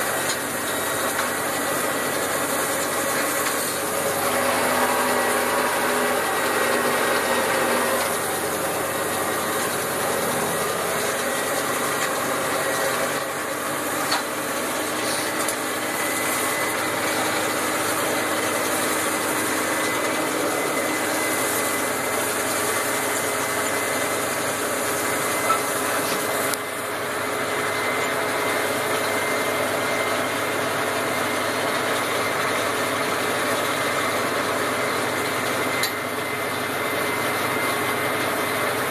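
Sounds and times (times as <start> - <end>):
tractor running under load: 0.0 - 38.9.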